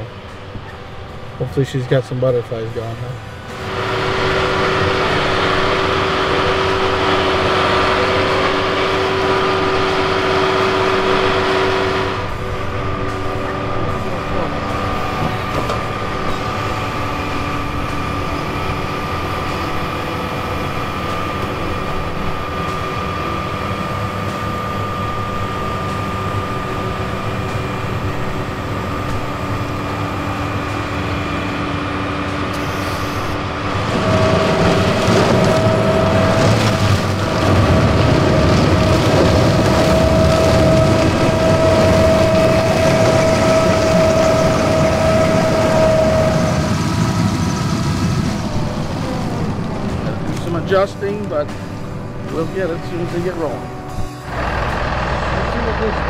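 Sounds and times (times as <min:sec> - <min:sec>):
heavy machinery whining and rumbling: 0:00.0 - 0:56.0.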